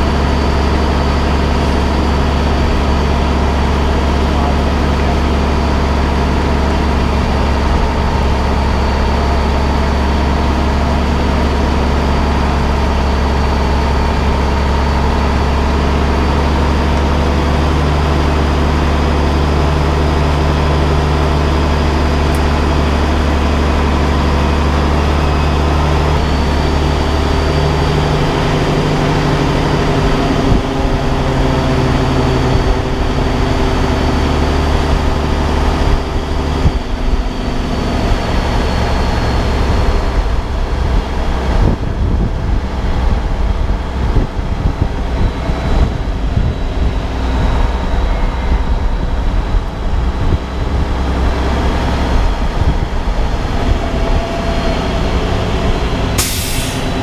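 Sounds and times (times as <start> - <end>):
truck diesel engine droning: 0.0 - 57.0.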